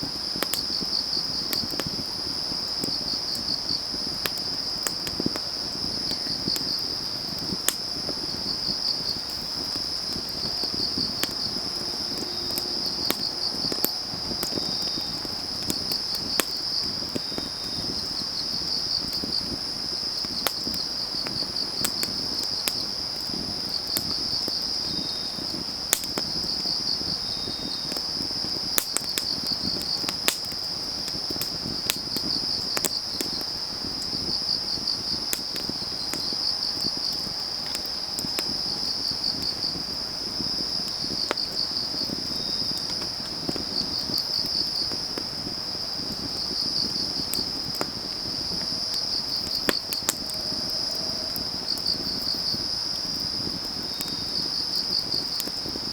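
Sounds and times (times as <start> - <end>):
crickets chirping: 0.0 - 55.9
firewood crackling and popping: 0.0 - 55.9.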